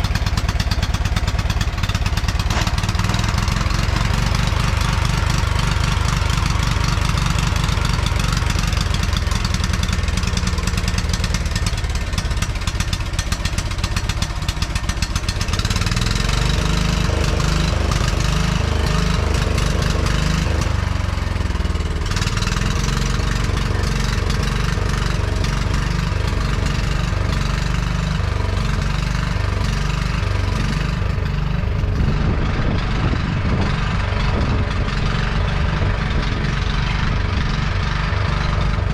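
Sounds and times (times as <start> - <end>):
riding lawn mower engine running: 0.0 - 38.9.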